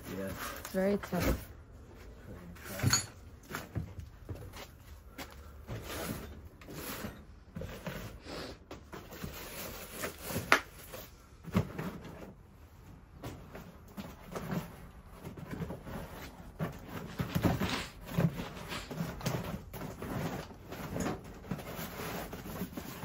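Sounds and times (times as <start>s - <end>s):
boxes and shelving handled: 0.0s - 23.0s.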